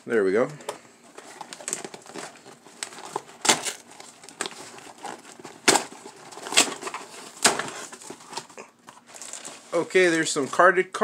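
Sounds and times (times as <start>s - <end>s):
cardboard crinkling: 1.1s - 10.6s.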